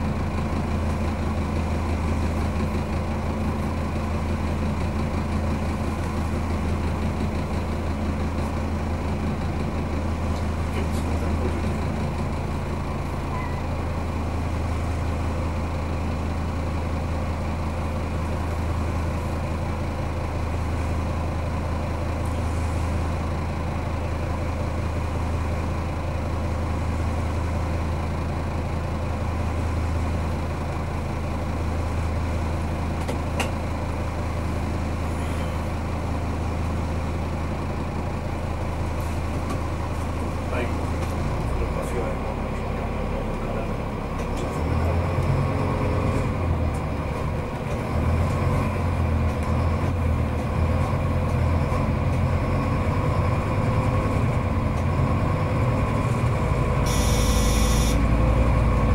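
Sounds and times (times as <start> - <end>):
diesel engine idling: 0.0 - 58.9.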